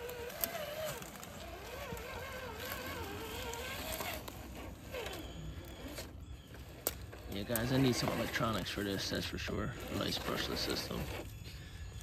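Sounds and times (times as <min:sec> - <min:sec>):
electric motor and gearbox whining: 0:00.0 - 0:12.0.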